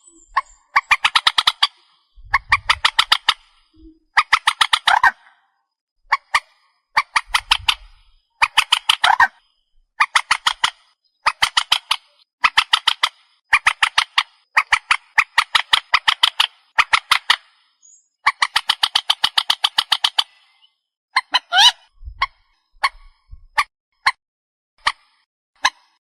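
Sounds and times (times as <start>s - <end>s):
recorded bird calls: 0.0s - 24.2s.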